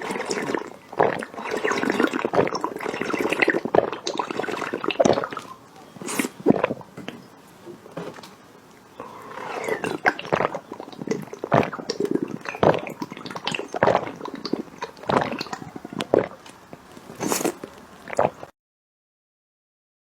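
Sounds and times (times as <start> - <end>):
person gulping and swallowing: 0.0 - 18.5.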